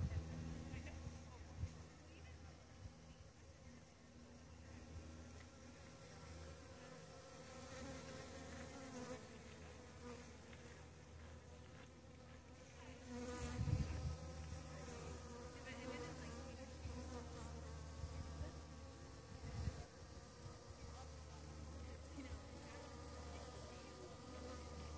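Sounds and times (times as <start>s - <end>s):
bees buzzing: 0.0s - 24.9s.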